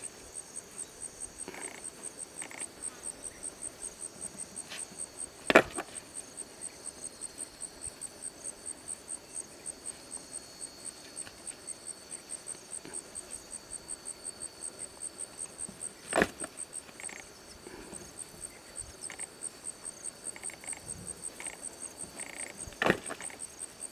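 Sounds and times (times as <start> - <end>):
insects chirping: 0.0 - 23.9.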